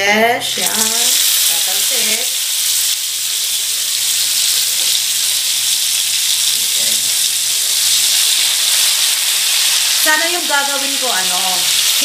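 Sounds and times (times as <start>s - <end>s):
fish sizzling in hot oil: 0.4s - 12.0s.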